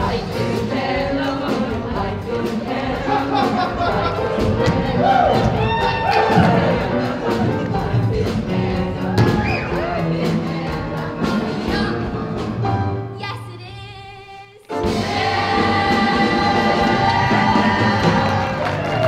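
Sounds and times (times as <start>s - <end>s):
cast singing with live band: 0.0s - 12.5s, 14.8s - 19.0s.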